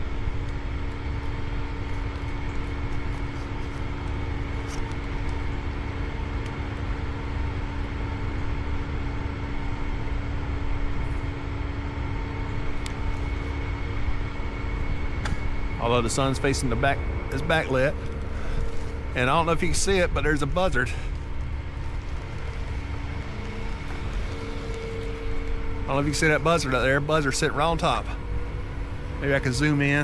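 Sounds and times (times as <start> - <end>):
heavy machinery engine drone: 0.0 - 30.0.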